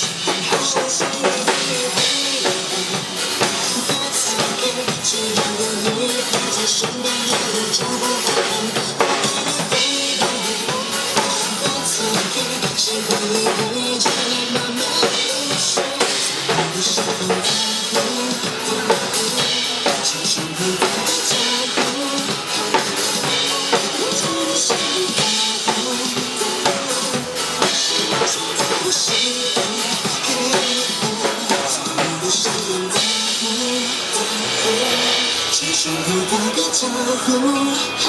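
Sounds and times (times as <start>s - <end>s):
drum kit beat: 0.0s - 38.0s
pop melody instruments: 0.0s - 38.0s.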